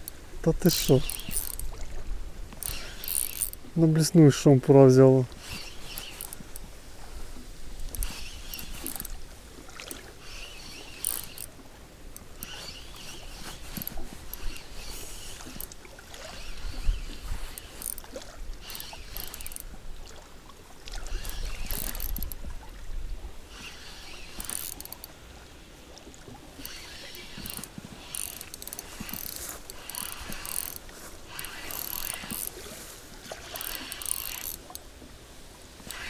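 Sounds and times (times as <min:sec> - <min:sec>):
fishing reel ticking whirr: 0:00.0 - 0:04.2, 0:05.2 - 0:20.0, 0:20.9 - 0:22.5, 0:23.4 - 0:34.9, 0:35.8 - 0:36.0.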